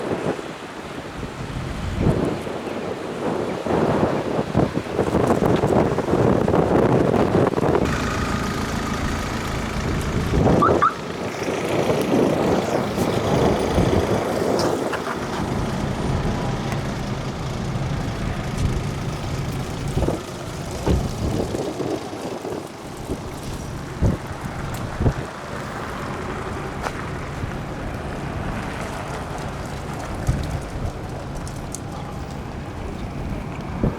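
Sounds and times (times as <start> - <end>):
road traffic: 0.0 - 33.9
wind gusting over microphone: 0.0 - 33.9
vehicle engine running: 5.7 - 33.9.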